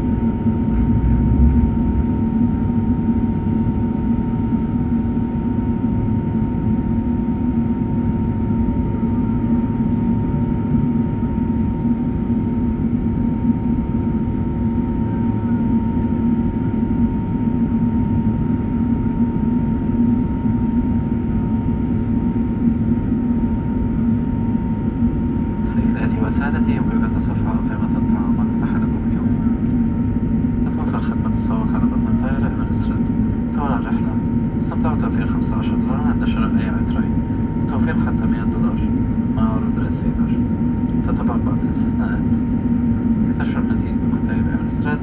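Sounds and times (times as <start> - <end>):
jet engine drone in cabin: 0.0 - 45.0.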